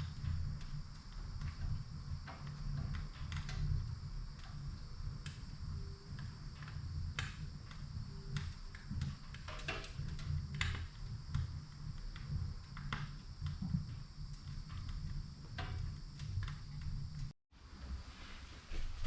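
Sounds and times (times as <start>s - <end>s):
firewood crackling: 0.0s - 17.4s
low stove rumble: 0.0s - 19.0s.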